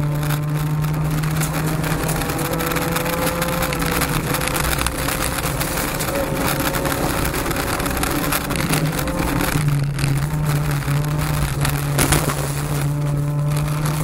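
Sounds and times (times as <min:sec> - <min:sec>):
car engine running hard: 0:00.0 - 0:14.0
gravel and tyre hiss: 0:00.0 - 0:14.0.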